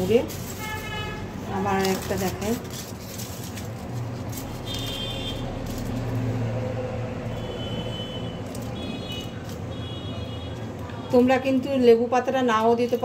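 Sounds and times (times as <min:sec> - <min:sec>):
aluminium foil crinkling: 0:00.0 - 0:11.6
traffic hum: 0:00.0 - 0:13.0.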